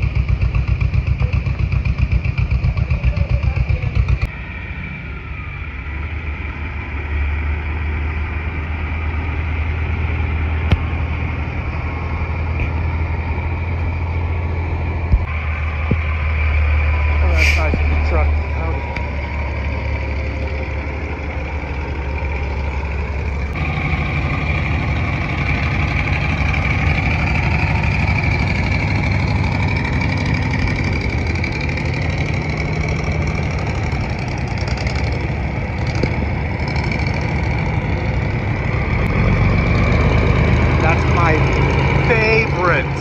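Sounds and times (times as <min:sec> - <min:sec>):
diesel trucks driving past: 0:00.0 - 0:43.0.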